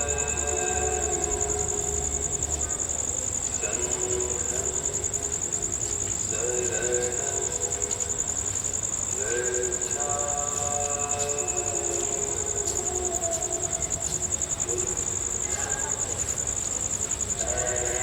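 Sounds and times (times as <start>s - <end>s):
crickets chirping: 0.0s - 18.0s
faint voices: 0.0s - 18.0s.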